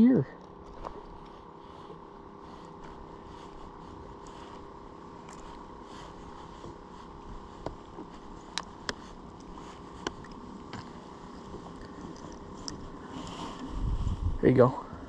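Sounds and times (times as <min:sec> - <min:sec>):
boat engine humming: 0:00.0 - 0:15.0
faint constant tone: 0:00.0 - 0:15.0.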